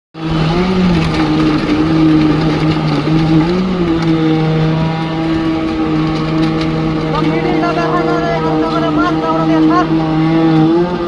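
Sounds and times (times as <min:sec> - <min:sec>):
diesel engine humming: 0:00.2 - 0:11.0.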